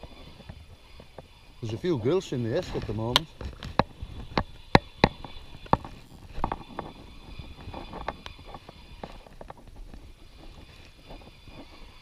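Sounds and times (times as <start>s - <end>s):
fishing reel clicks and knocks: 0.0s - 12.0s.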